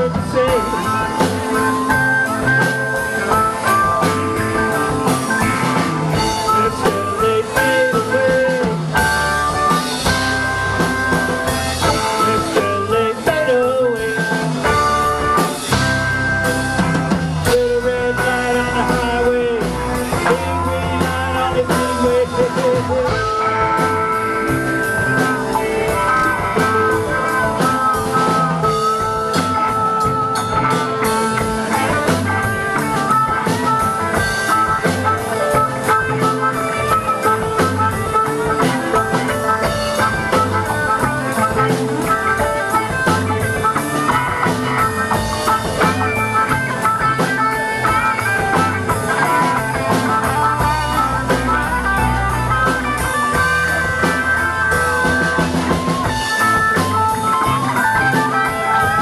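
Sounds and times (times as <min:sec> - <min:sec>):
drum kit: 0:00.0 - 0:59.0
electric guitars: 0:00.0 - 0:59.0
harmonica wavering lead notes: 0:00.0 - 0:59.0.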